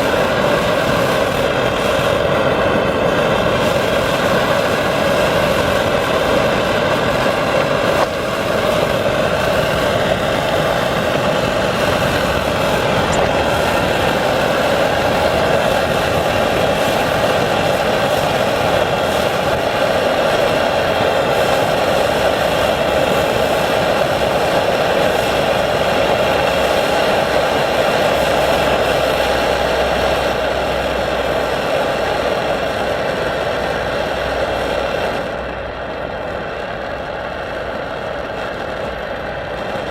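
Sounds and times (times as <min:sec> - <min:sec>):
pressure stove burner roaring: 0:00.0 - 0:39.9.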